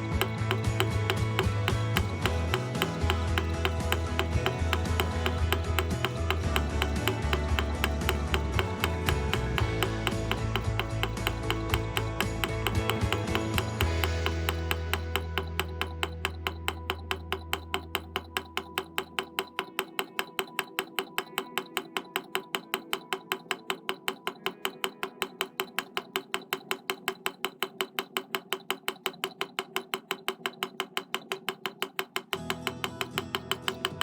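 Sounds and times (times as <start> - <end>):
background music: 0.0 - 27.1, 32.3 - 34.0
small engine ticking: 0.0 - 34.0.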